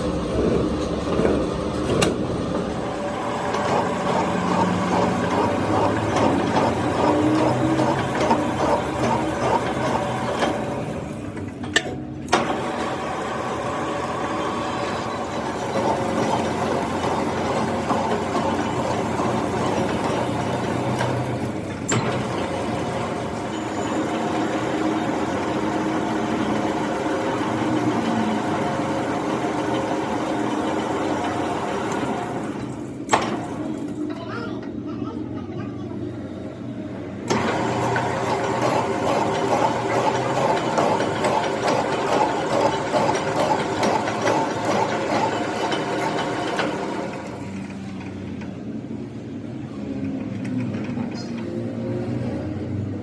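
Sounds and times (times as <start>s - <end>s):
metal lathe humming: 2.4s - 34.2s, 36.1s - 48.8s.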